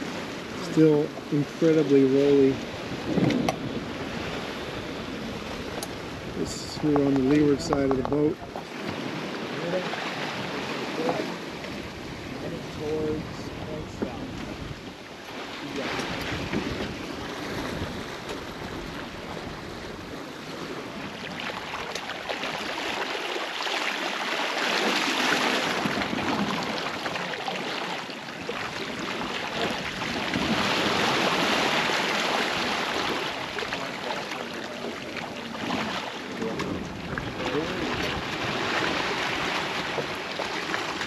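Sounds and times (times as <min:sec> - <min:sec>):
seawater splashing along boat hull: 0:00.0 - 0:41.0.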